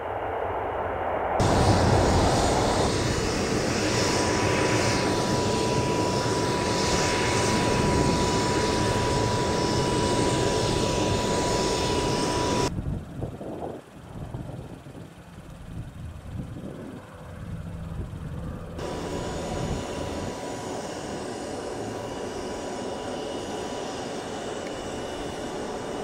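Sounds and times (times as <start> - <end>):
jet turbine idling with whine: 0.0 - 26.0
outdoor noise: 0.0 - 26.0.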